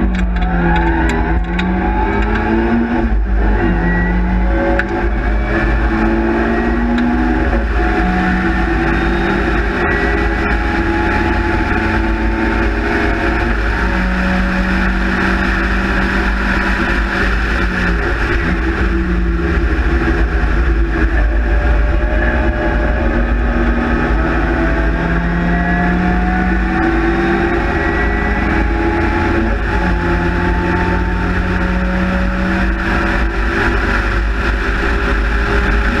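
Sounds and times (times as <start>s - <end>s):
race car engine revving: 0.0s - 36.0s
wind and road rumble: 0.0s - 36.0s.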